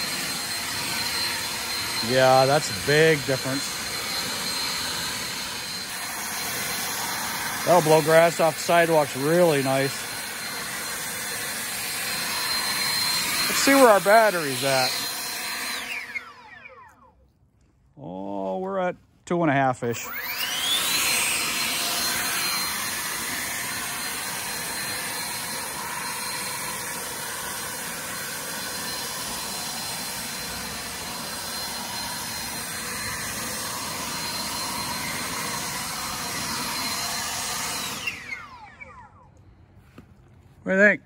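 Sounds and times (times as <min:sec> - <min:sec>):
leaf blower whining: 0:00.0 - 0:17.2, 0:19.8 - 0:40.8.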